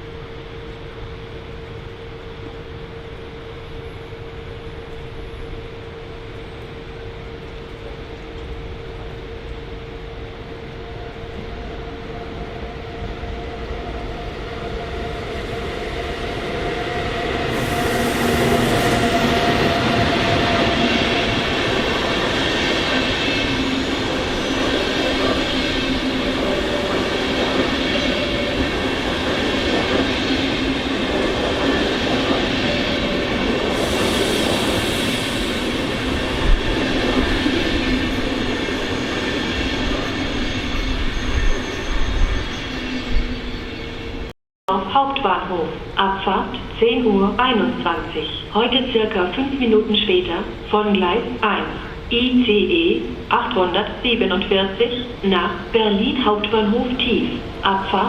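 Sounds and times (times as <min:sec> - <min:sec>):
train running through station: 0:00.0 - 0:58.0
whining train tones: 0:00.0 - 0:58.0.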